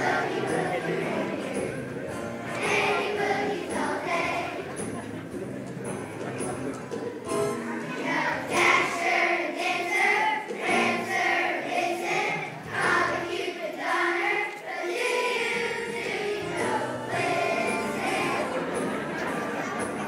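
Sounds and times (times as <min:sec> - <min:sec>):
children's choir singing: 0:00.0 - 0:05.4, 0:06.9 - 0:20.0.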